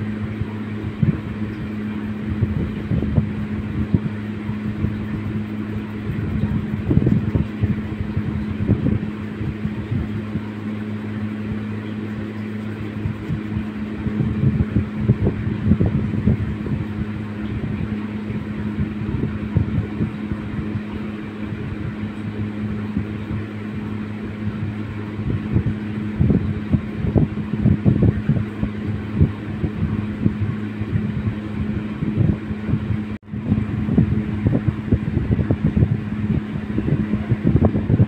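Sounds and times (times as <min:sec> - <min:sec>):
electric fan humming: 0:00.0 - 0:38.0
wind buffeting microphone: 0:00.0 - 0:38.0.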